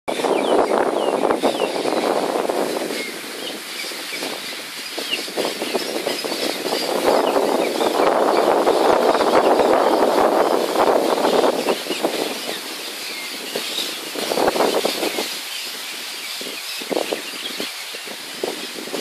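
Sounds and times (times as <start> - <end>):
faint birds calling: 0.1 - 18.9
wind buffeting microphone: 0.1 - 19.0.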